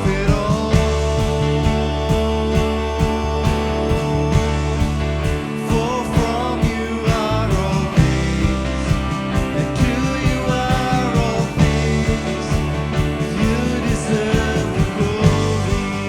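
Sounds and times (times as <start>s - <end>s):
band playing held chords: 0.0s - 16.0s
steady drum beat: 0.0s - 16.0s.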